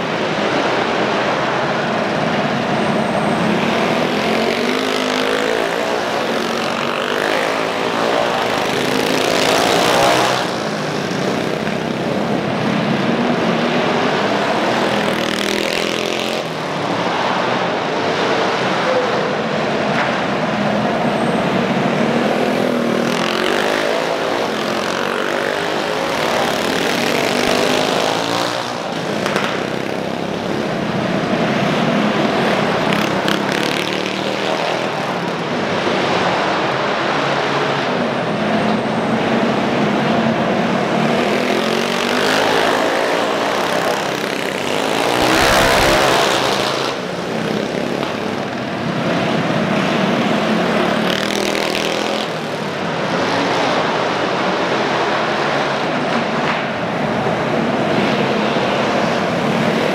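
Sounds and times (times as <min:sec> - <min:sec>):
mini bike engines racing: 0:00.0 - 0:59.9.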